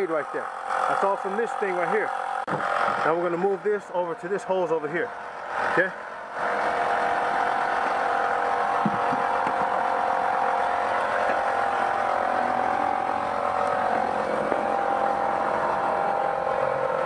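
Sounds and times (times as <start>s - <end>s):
smoke machine humming: 0.0s - 17.0s.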